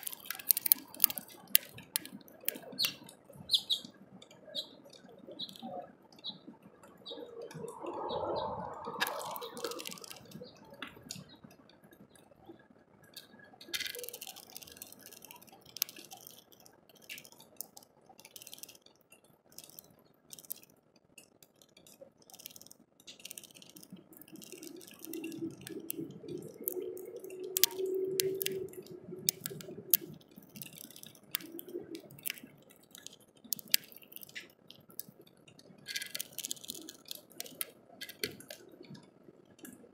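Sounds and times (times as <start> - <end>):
raindrops ticking on plastic: 0.0 - 8.1, 8.7 - 39.9.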